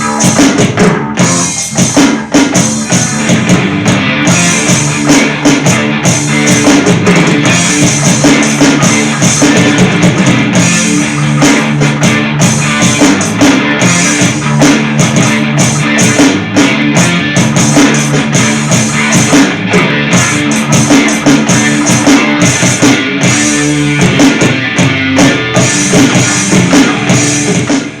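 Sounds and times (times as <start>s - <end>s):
loud rock music: 0.0s - 28.0s.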